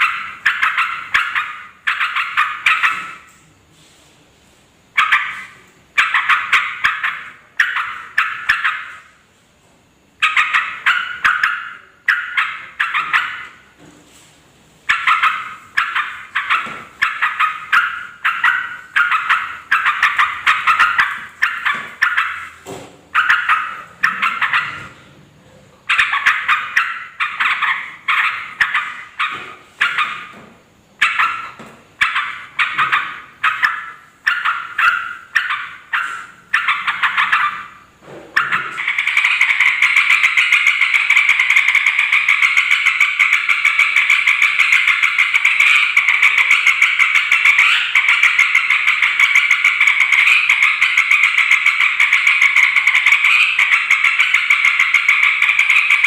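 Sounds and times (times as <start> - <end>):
bird rapid chattering: 0.0 - 3.3, 5.0 - 9.1, 10.2 - 13.6, 14.9 - 25.0, 25.8 - 30.4, 31.0 - 37.8, 38.4 - 56.0.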